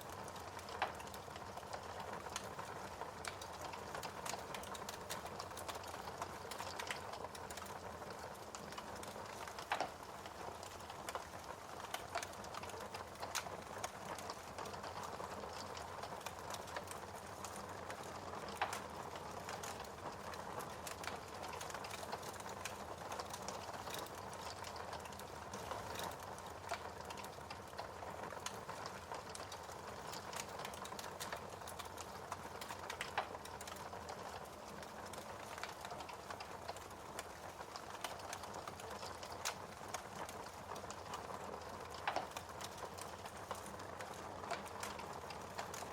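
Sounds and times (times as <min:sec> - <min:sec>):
fire hissing and crackling: 0:00.0 - 0:45.9.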